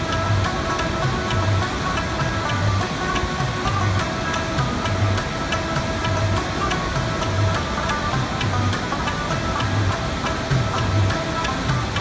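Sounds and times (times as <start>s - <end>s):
plucked string instrument: 0.0s - 12.0s
waterfall rushing: 0.0s - 12.0s.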